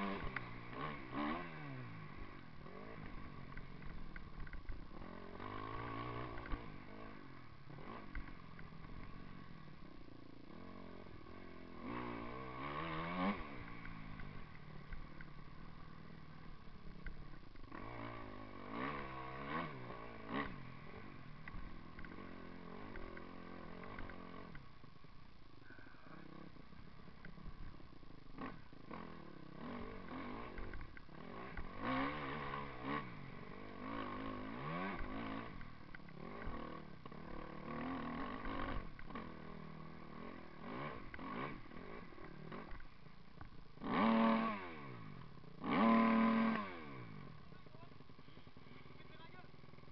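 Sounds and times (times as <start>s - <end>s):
motocross bike engine revving: 0.0s - 25.0s, 25.6s - 49.9s.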